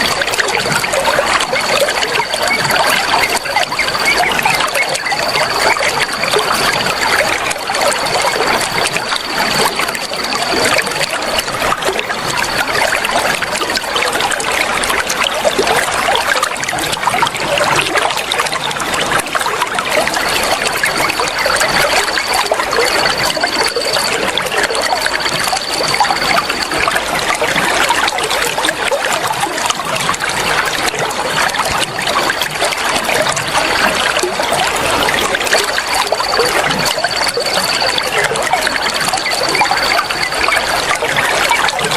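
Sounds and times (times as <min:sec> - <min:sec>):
water flowing and trickling: 0:00.0 - 0:41.9.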